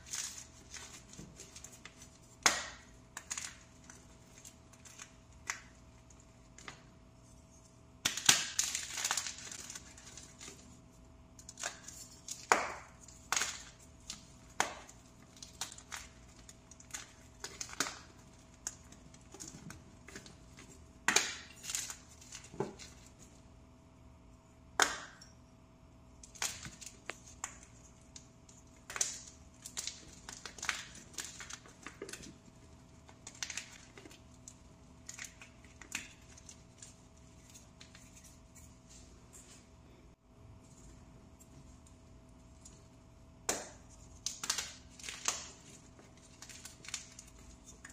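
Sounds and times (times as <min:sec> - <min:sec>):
powder blocks crushed by hand: 0:00.0 - 0:07.0, 0:08.0 - 0:23.3, 0:24.8 - 0:25.2, 0:26.2 - 0:38.2, 0:41.5 - 0:47.9.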